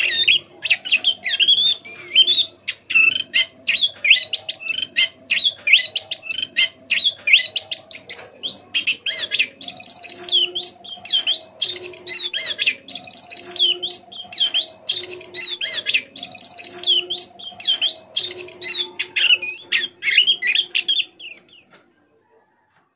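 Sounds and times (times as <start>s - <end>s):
bird chattering warble: 0.0s - 21.8s.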